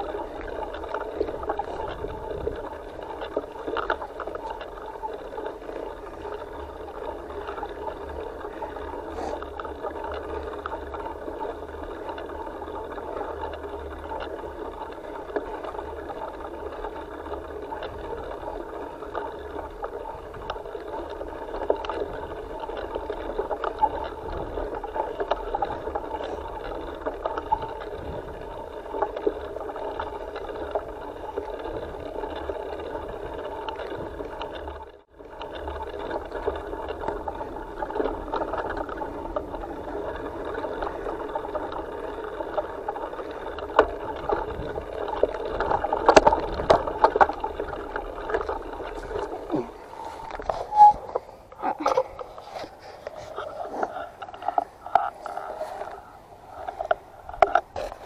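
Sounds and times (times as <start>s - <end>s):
bike rattles and clicks: 0.0s - 58.0s
rumble of tyres and wind: 0.0s - 58.0s.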